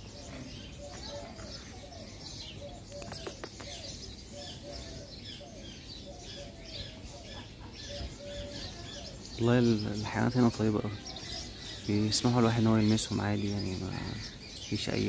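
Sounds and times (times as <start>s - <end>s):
birds chirping: 0.0s - 15.0s
short low bird calls: 0.0s - 15.0s.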